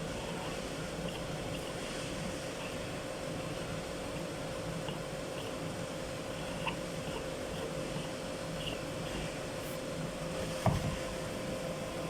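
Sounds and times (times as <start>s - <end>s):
mechanical fan hum: 0.0s - 12.0s.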